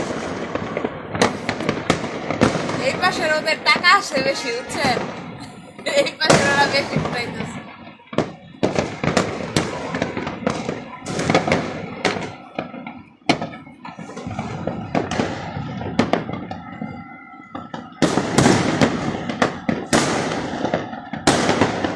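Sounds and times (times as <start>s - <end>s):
firecrackers banging and crackling: 0.0s - 21.9s.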